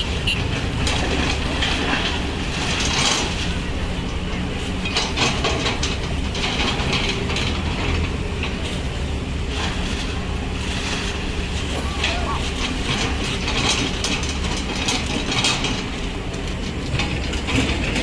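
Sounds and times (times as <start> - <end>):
backhoe engine running: 0.0 - 18.0
metallic clanking and rattling: 0.0 - 18.0.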